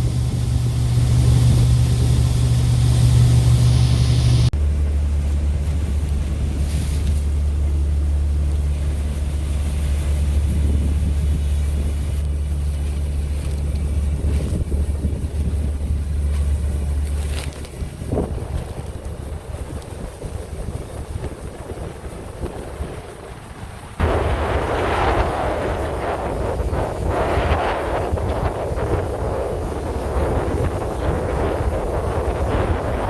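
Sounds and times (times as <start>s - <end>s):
tractor engine droning: 0.0s - 33.0s.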